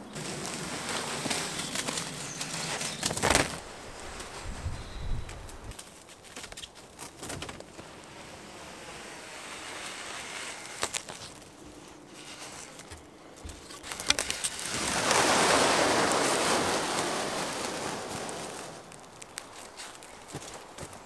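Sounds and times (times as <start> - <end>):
plastic film peeling off roll: 0.0 - 21.0
plastic wrap crinkling: 0.0 - 21.0.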